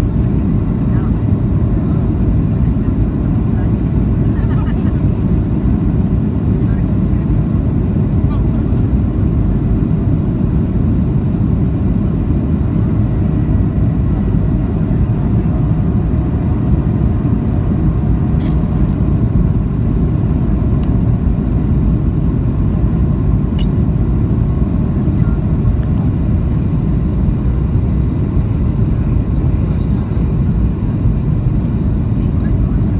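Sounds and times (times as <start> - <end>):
jet engine roar in cabin: 0.0 - 32.9.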